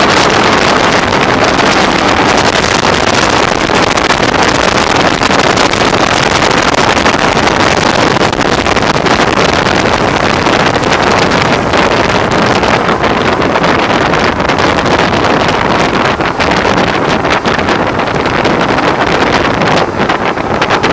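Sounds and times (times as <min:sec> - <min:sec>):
wind noise on microphone: 0:00.0 - 0:20.9.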